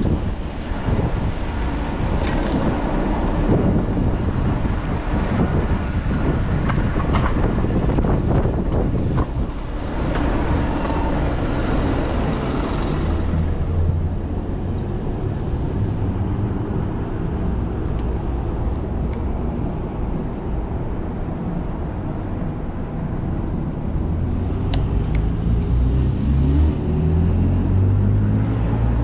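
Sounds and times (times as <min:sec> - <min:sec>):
city traffic rumble: 0:00.0 - 0:29.0
wind buffeting microphone: 0:00.0 - 0:29.0.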